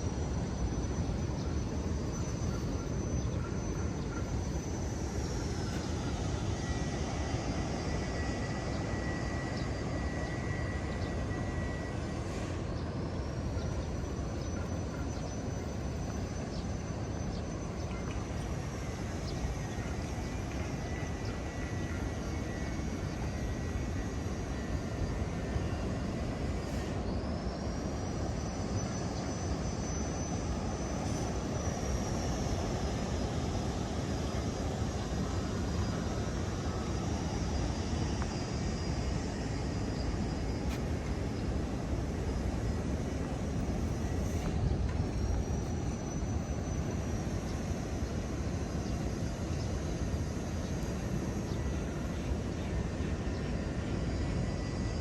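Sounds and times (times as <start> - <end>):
high steady whine: 0.0 - 55.0
wind: 0.0 - 55.0.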